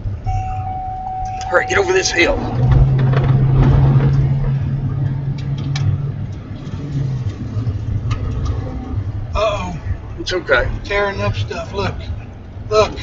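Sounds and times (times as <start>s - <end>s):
car engine under throttle: 0.0s - 13.0s
road rumble: 0.0s - 13.0s.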